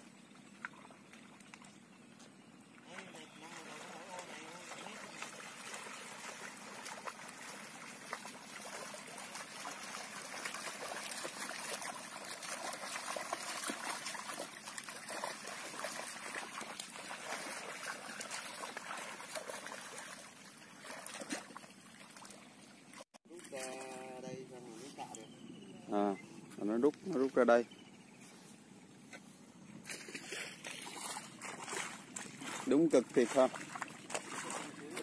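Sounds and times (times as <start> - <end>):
muddy water sloshing and splashing: 0.0 - 25.1, 26.4 - 35.0
boots wading in mud: 0.5 - 24.0, 29.0 - 35.0.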